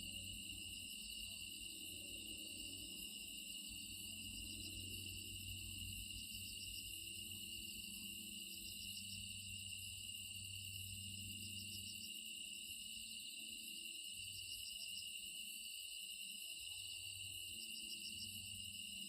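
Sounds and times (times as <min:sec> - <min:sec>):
insects chirping: 0:00.0 - 0:19.0
insects trilling: 0:00.0 - 0:19.0.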